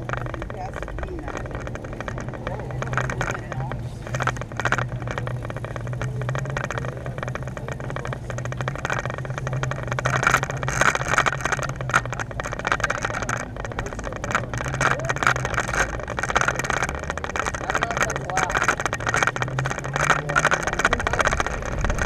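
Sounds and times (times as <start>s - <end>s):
small rattles and clicks: 0.0s - 22.0s
vehicle engine idling: 0.0s - 22.0s.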